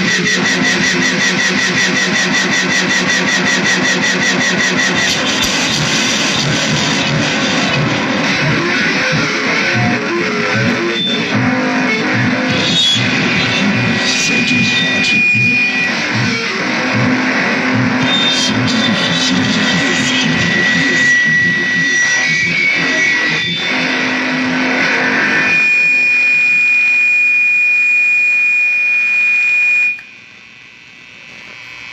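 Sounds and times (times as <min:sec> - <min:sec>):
guitar music: 0:00.0 - 0:25.9
steady high whine: 0:00.0 - 0:31.9.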